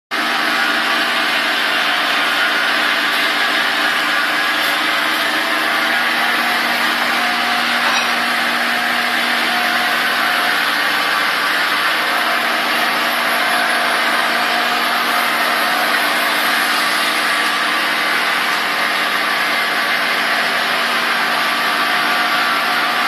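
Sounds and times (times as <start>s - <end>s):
metal lathe running: 0.2s - 23.0s.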